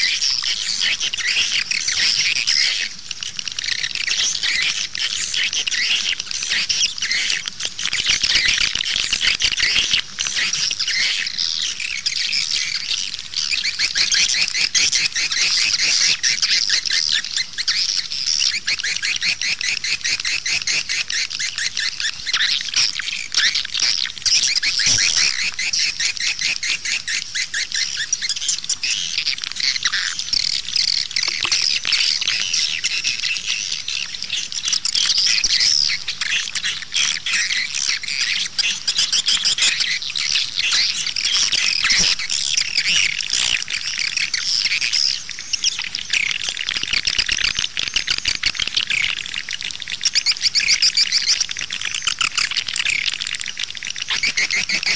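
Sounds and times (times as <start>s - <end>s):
swiftlet chirps and twitters: 0.0s - 54.9s.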